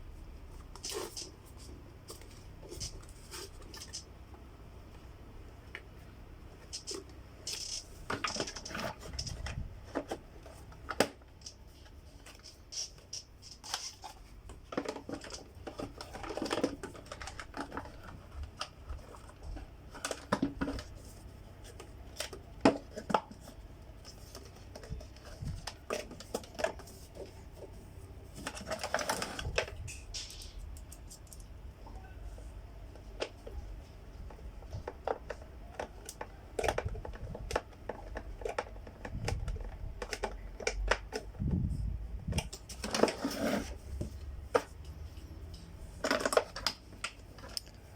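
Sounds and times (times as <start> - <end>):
plastic parts clicking and knocking: 0.7 - 4.2, 6.6 - 31.6, 32.9 - 47.9.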